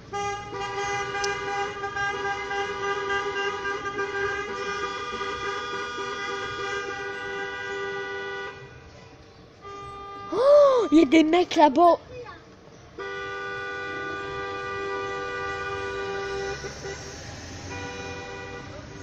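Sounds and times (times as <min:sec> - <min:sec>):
car horn blast: 0:00.1 - 0:08.8, 0:09.6 - 0:10.4, 0:13.0 - 0:19.0.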